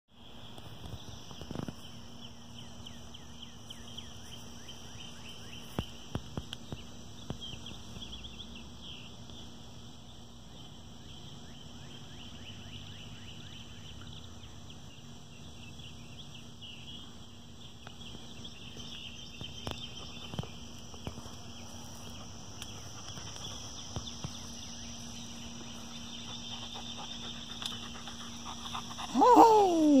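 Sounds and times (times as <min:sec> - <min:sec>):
faint low hum: 0:00.1 - 0:30.0
high insect chorus: 0:00.1 - 0:30.0.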